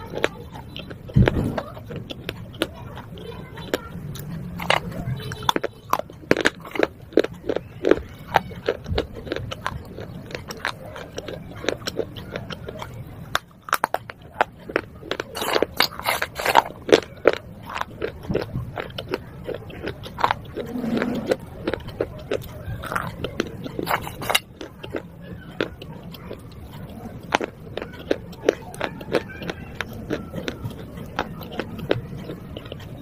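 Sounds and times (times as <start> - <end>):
brittle crunching chewing: 0.0 - 33.0.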